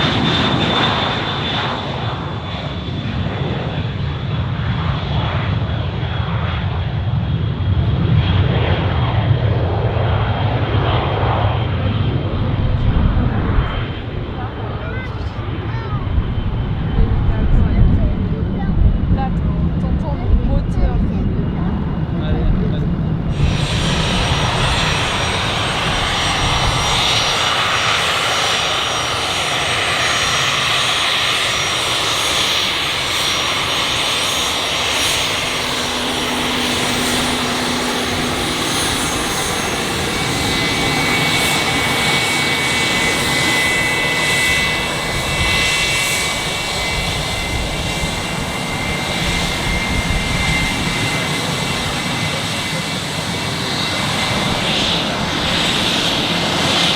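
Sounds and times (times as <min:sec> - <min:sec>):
jet engines rushing: 0:00.0 - 0:56.9.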